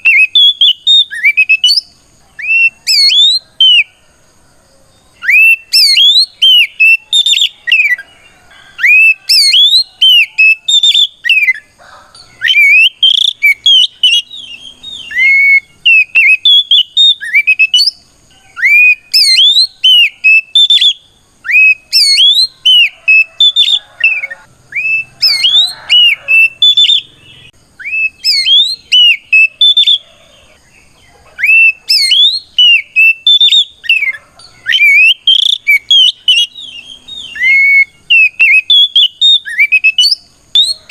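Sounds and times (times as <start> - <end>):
bird singing whistled notes: 0.0 - 4.0, 5.0 - 40.9.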